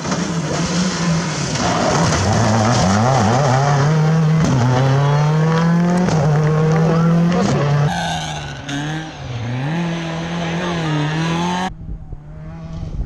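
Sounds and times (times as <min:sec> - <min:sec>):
rally car engine revving past: 0:00.0 - 0:13.0
tyre and road noise: 0:00.0 - 0:13.0.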